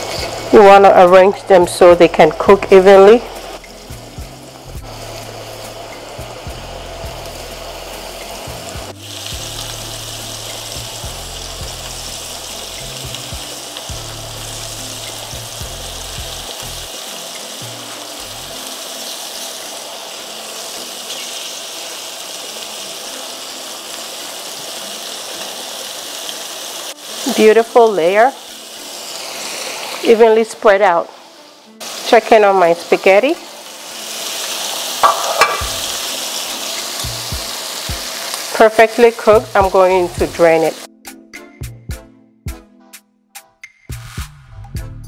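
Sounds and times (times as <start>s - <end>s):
shrimp sizzling in hot oil: 0.0s - 40.9s.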